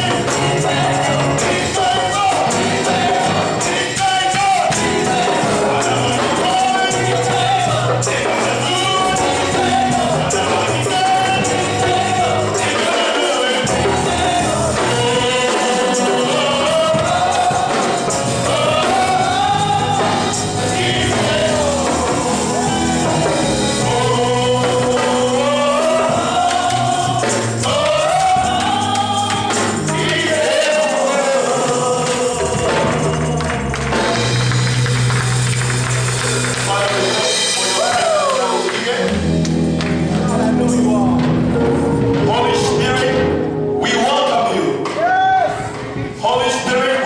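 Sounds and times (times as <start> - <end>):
gospel song with singing voices: 0.0 - 47.0.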